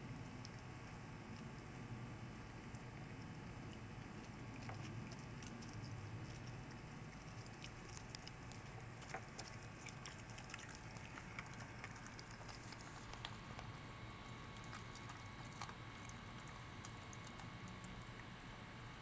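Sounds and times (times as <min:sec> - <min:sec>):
low steady hum: 0:00.0 - 0:19.0
dog chewing fish: 0:02.6 - 0:18.8.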